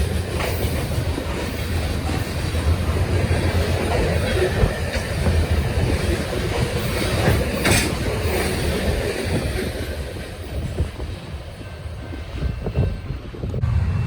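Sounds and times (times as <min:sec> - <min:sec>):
sharp high train noise: 0:00.0 - 0:14.0
train passing: 0:00.0 - 0:14.0.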